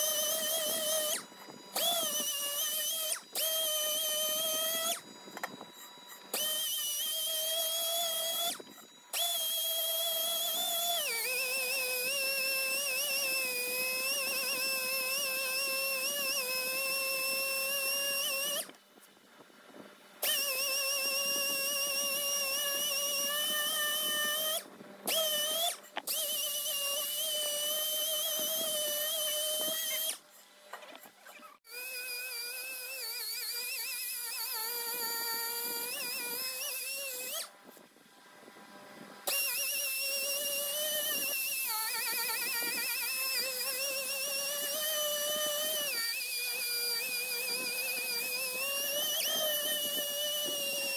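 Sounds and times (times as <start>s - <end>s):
pneumatic sander whining: 0.0s - 50.9s.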